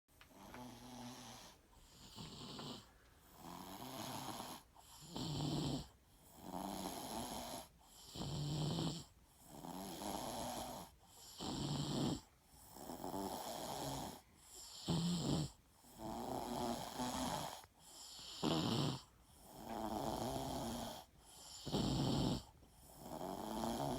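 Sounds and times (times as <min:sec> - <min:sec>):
person snoring: 0:00.3 - 0:23.9.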